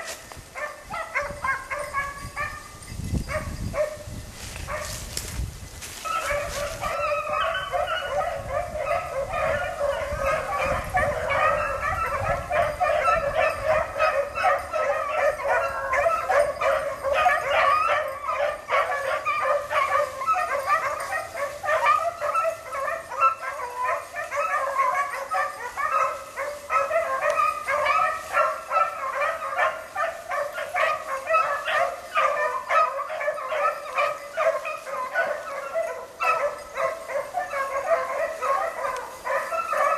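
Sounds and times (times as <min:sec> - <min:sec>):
pack of dogs baying: 0:00.0 - 0:05.1, 0:06.0 - 0:39.9.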